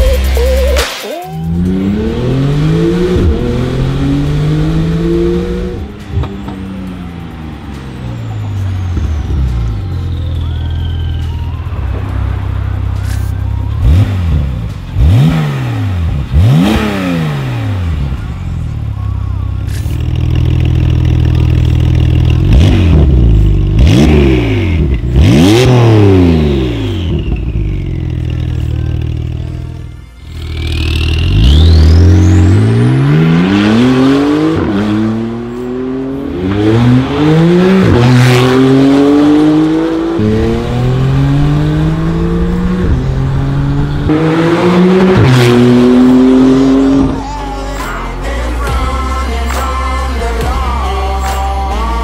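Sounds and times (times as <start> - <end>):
sports car engine revving: 1.4 - 10.2, 13.8 - 18.5, 19.6 - 29.4, 30.3 - 51.8.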